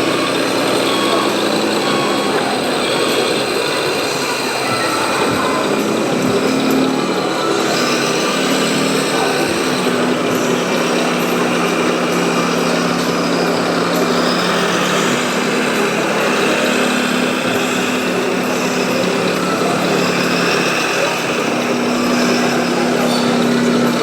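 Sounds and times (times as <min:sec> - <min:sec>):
low hums: 0:00.0 - 0:24.0
toy machines mechanical drone: 0:00.0 - 0:24.0.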